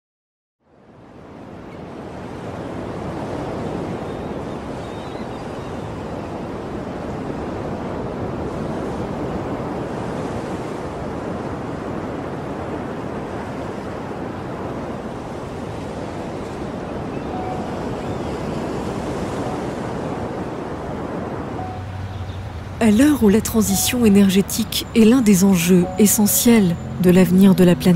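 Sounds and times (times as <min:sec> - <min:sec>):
wind: 0:00.6 - 0:27.9
sea waves: 0:00.7 - 0:27.9.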